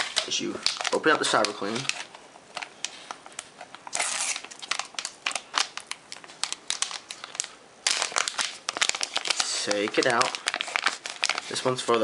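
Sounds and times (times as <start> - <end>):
plastic pouch crinkling: 0.0 - 12.0.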